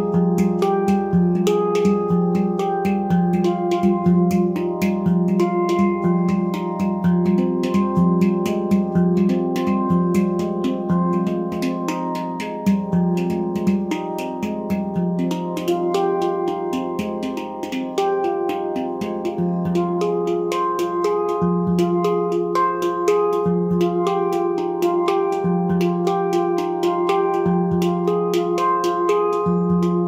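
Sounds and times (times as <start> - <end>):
deep handpan bass note: 0.0 - 30.0
handpan melody: 0.0 - 30.0.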